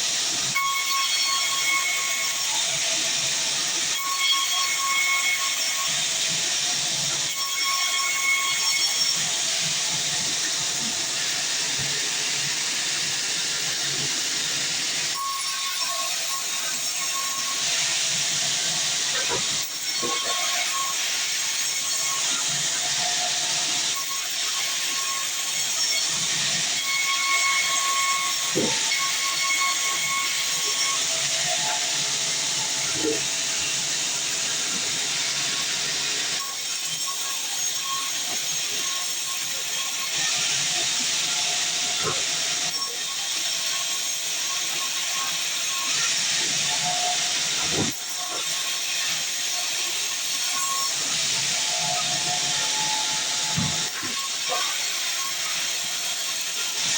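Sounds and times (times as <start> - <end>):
bandsaw cutting a log: 0.0 - 56.9.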